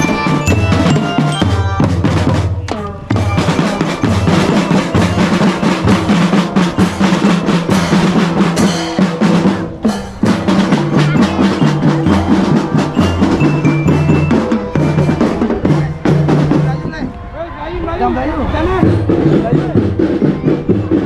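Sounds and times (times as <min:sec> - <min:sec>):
snare drums rolling: 0:00.0 - 0:17.0
bass drum beats: 0:00.0 - 0:17.1, 0:18.7 - 0:21.0.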